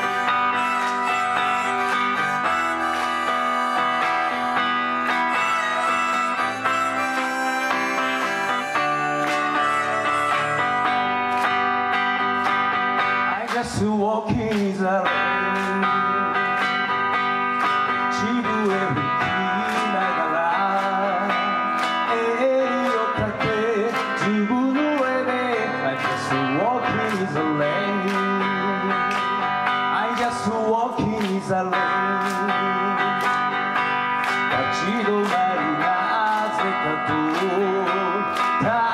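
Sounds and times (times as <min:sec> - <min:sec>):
acoustic and electric guitars: 0:00.0 - 0:38.9
bending melody line: 0:00.0 - 0:38.9.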